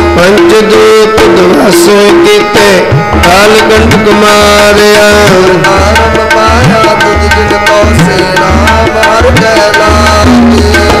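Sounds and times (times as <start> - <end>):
harmonium melody: 0.0 - 11.0
tabla rhythm: 0.0 - 11.0.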